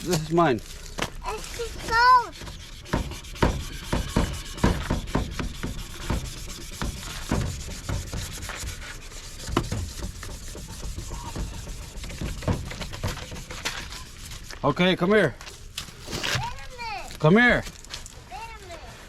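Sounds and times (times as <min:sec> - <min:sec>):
hand scrubbing headlight lens: 0:00.0 - 0:17.2.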